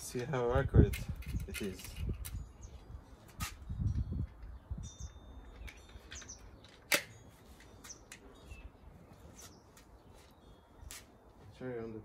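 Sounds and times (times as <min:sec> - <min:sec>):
birds chirping: 0:01.2 - 0:12.0.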